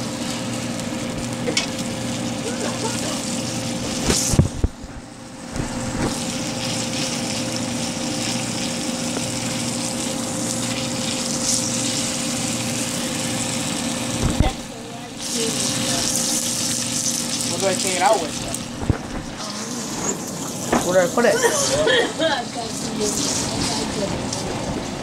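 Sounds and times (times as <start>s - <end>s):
meat sizzling in hot oil: 0.0s - 25.0s
steady low hum: 0.0s - 25.0s.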